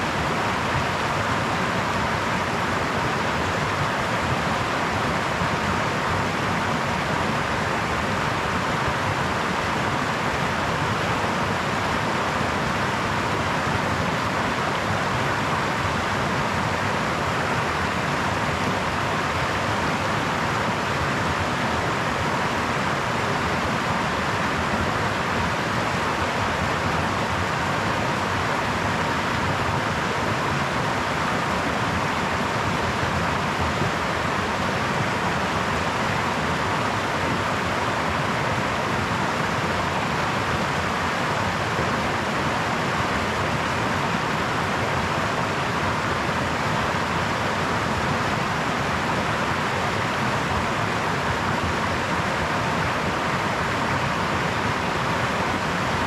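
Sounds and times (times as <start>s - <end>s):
brook water babbling: 0.0s - 56.0s.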